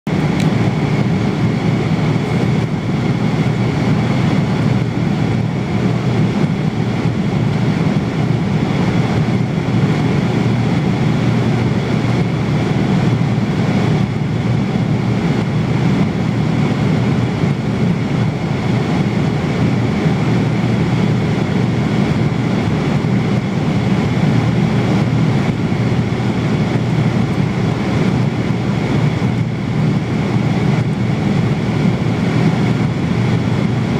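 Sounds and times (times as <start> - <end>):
airliner cabin roar: 0.1 - 33.9.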